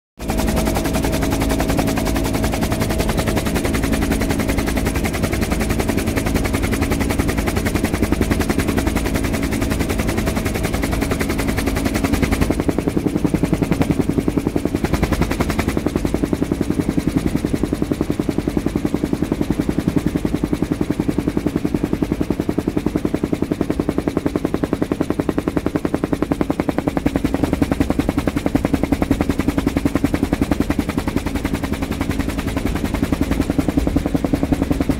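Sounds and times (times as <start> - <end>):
helicopter rotor chop and turbine: 0.2 - 34.9.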